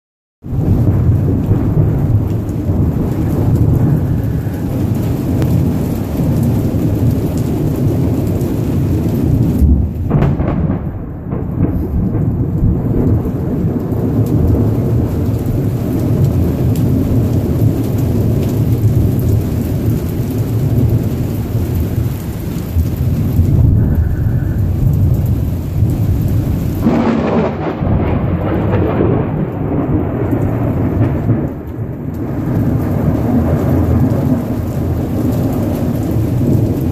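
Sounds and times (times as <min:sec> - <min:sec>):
steady rain: 0:00.4 - 0:36.9
thunder rumbling: 0:00.4 - 0:36.9.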